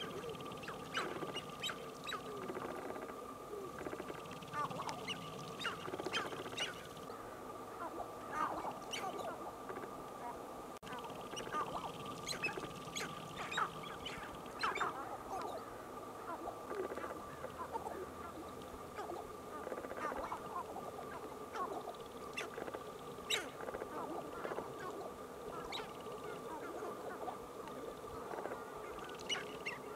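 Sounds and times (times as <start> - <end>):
grouse clucking calls: 0.0 - 29.9.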